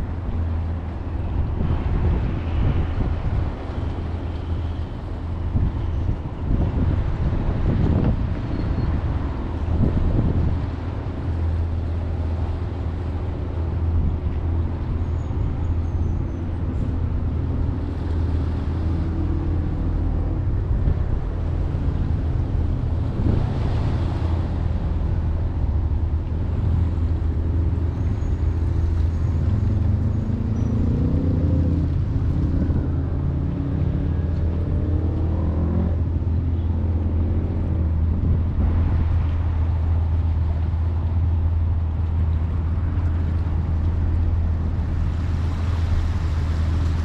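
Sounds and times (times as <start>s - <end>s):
low engine-like rumble: 0.0s - 47.0s.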